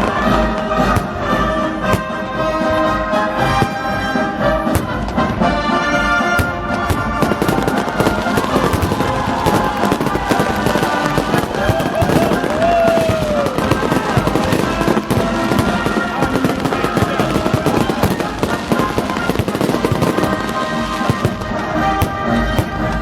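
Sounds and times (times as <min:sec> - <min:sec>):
firework whistle: 0:00.0 - 0:23.0
fireworks bursting and crackling: 0:00.0 - 0:23.0
military songs playing: 0:00.0 - 0:23.0.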